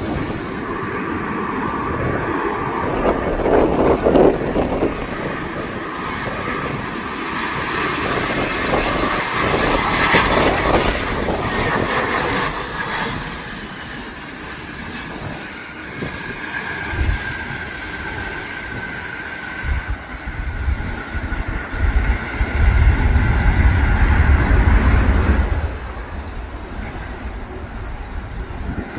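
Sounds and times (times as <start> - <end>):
jet engines whining: 0.0 - 28.9
wind buffeting microphone: 0.0 - 28.9.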